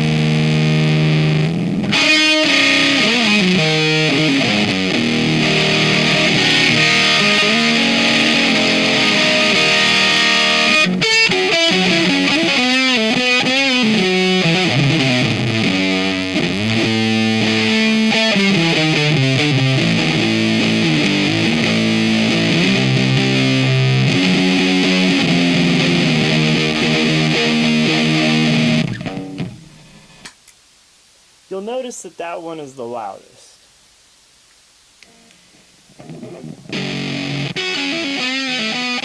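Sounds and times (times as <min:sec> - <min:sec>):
distorted electric guitar: 0:00.0 - 0:30.3, 0:35.0 - 0:39.0.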